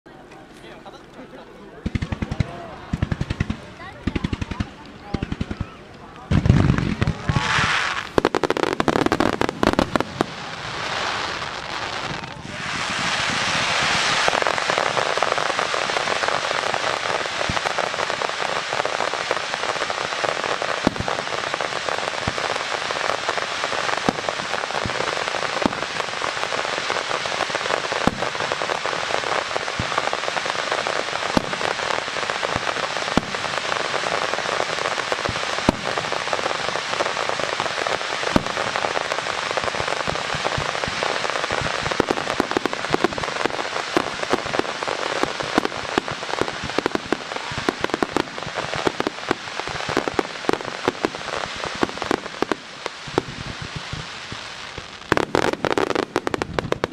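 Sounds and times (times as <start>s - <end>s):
fireworks crackling hiss: 0.6s - 56.9s.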